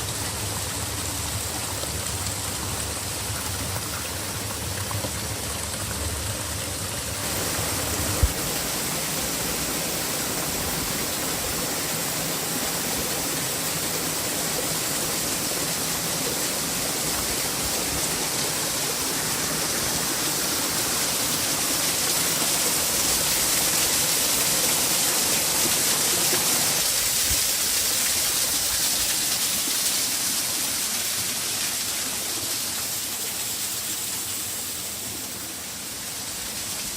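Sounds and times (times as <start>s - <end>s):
flowing water rushing: 0.0s - 36.9s.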